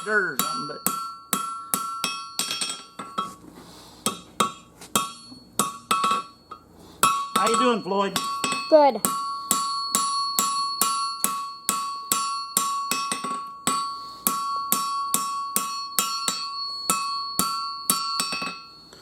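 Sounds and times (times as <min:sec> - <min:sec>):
anvil ringing: 0:00.0 - 0:03.4, 0:04.0 - 0:19.0
hammer striking steel on anvil: 0:00.0 - 0:03.4, 0:04.0 - 0:18.8.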